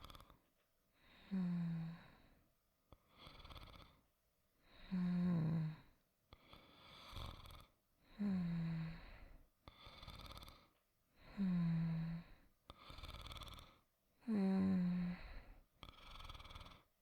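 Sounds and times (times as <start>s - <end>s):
person snoring softly: 0.0s - 0.4s, 1.0s - 4.0s, 4.6s - 16.9s.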